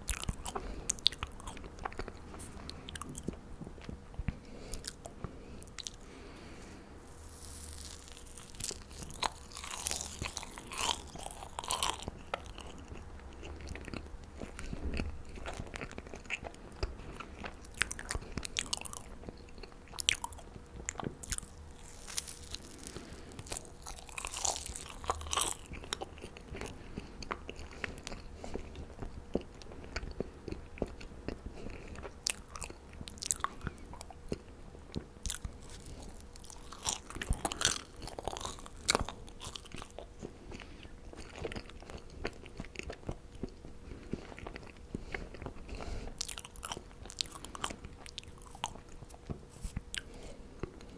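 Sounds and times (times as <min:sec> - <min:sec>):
person chewing marshmallows: 0:00.0 - 0:50.9.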